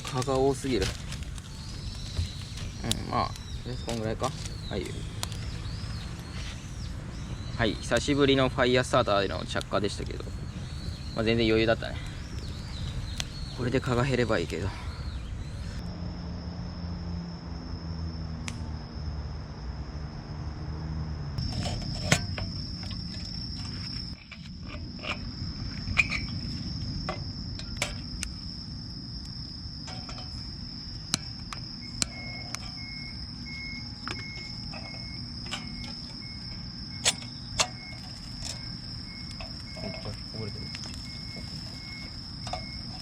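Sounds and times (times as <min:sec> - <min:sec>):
campfire popping and cracking: 0:00.0 - 0:06.9, 0:07.8 - 0:14.7, 0:21.4 - 0:43.0
crickets trilling: 0:00.0 - 0:43.0
insect chirping in pulses: 0:00.0 - 0:43.0.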